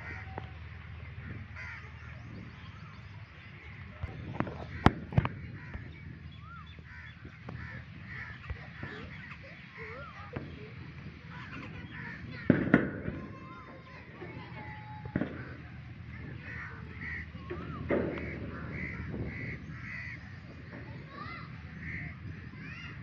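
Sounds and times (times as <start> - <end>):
birds chirping and whistling: 0.1 - 23.0.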